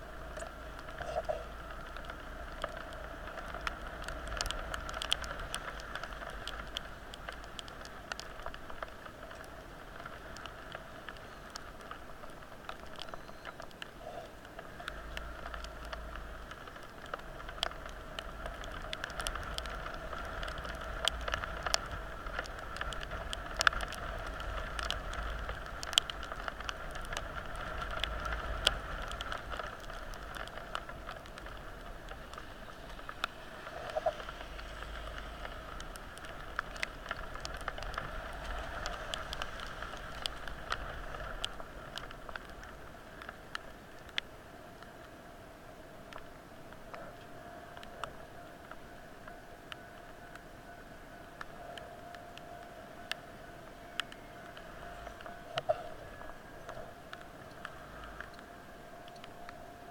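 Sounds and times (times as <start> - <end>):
raindrop ticks: 0.0 - 59.9
steady rain hiss: 0.0 - 59.9.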